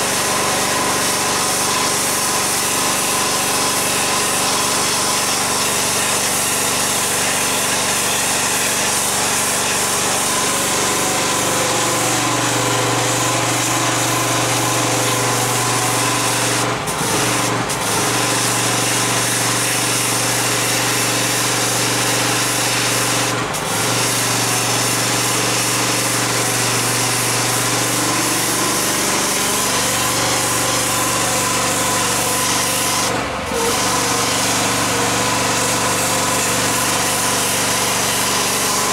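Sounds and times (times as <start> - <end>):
pressure washer motor drone: 0.0 - 38.9
water jet hissing on paving: 0.0 - 38.9.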